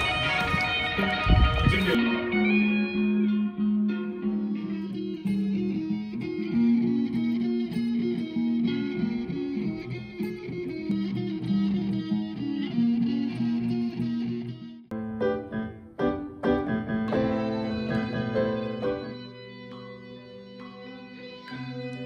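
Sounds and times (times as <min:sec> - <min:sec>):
clean electric guitar melody: 0:00.0 - 0:22.0.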